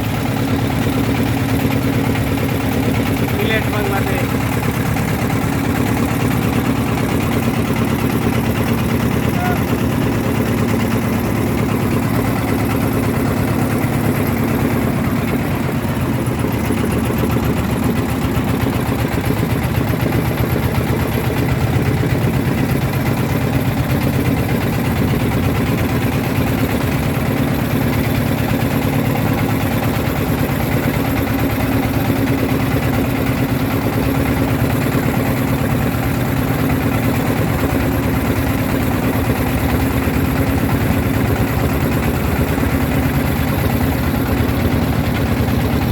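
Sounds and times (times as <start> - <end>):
motorboat engine droning: 0.0 - 45.9.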